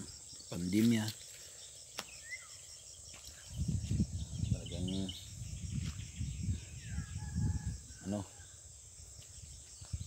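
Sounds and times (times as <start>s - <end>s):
bird chirps: 0.0s - 10.0s
crickets chirring: 0.0s - 10.0s.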